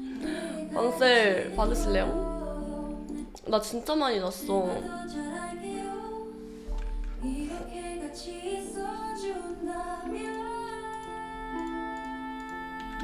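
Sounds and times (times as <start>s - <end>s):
slow melody of held notes: 0.0s - 3.8s, 4.4s - 13.0s.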